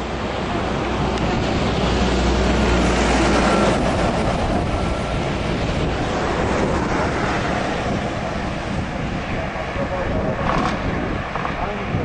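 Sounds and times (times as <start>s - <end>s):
faint tyre whine: 0.0s - 12.0s
heavy low rumble: 0.0s - 12.0s
highway traffic rushing: 0.0s - 12.0s.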